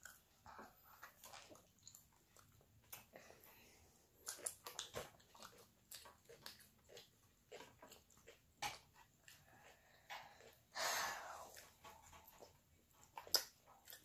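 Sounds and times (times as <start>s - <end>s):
chewing and mouth clicks: 0.0s - 10.7s, 11.5s - 14.0s.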